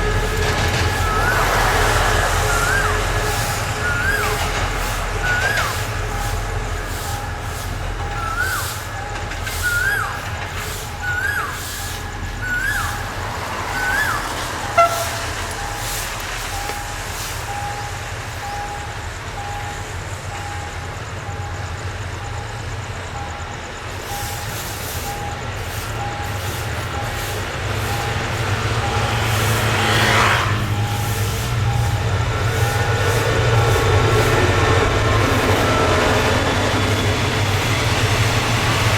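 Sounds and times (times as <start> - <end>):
electronic warning beep: 0.0 - 37.7
train engine idling: 0.0 - 38.9
whistled chirp: 0.8 - 34.0.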